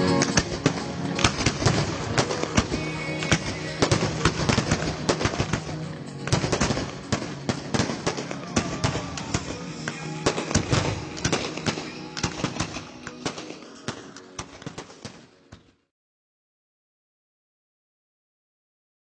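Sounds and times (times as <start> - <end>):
fireworks bangs and crackles: 0.0 - 15.4
music: 0.0 - 15.9.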